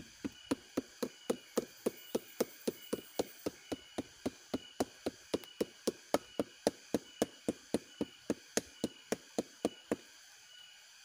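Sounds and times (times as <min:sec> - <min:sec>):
wooden beater knocking on stalk: 0:00.2 - 0:10.0.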